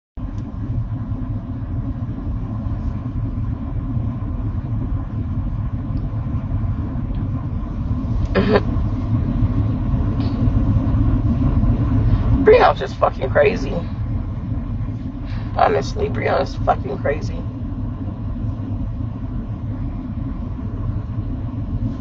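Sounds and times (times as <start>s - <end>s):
car engine rumble inside cabin: 0.2s - 22.0s.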